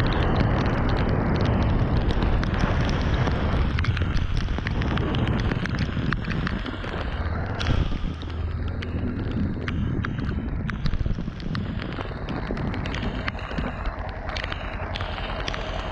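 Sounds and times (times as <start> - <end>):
raindrops ticking on camera: 0.0 - 15.9
wind noise on microphone: 0.0 - 15.9.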